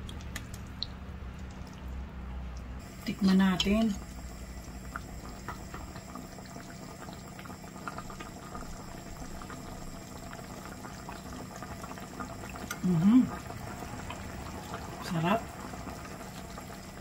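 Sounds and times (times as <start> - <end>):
curry sauce bubbling in a pot: 2.6 - 17.0.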